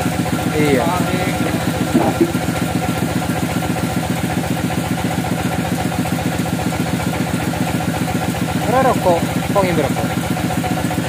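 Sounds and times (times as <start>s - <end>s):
bandsaw engine idling: 0.0s - 11.0s.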